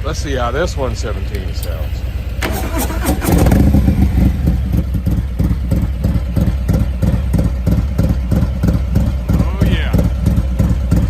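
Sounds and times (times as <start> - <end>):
motorcycle engine starting and idling: 0.0 - 11.0.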